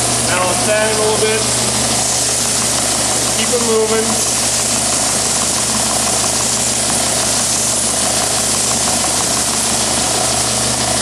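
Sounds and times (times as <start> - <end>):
belt sander running: 0.0 - 11.0.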